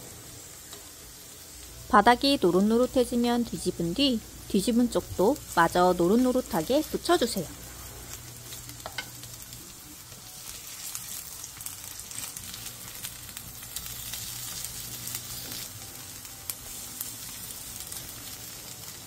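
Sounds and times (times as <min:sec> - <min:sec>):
pancakes sizzling in oil: 0:00.0 - 0:19.0.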